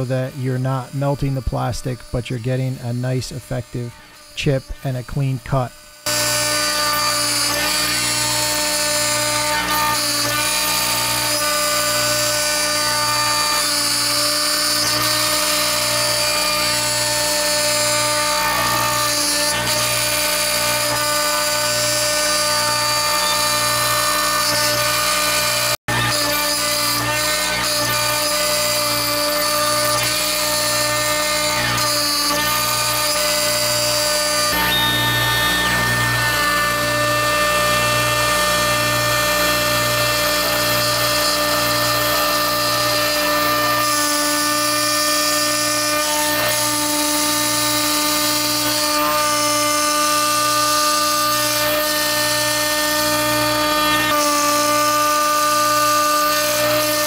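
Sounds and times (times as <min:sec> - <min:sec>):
spindle milling whine: 0:00.0 - 0:49.7.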